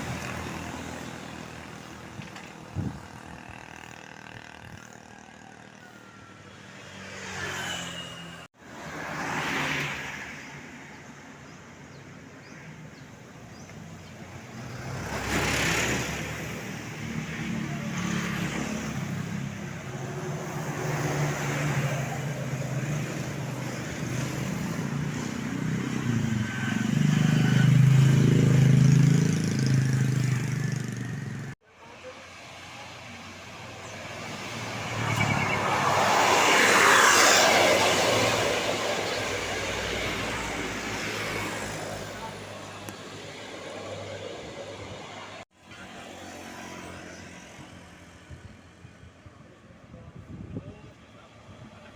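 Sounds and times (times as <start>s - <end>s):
vehicles passing: 0.0s - 51.9s.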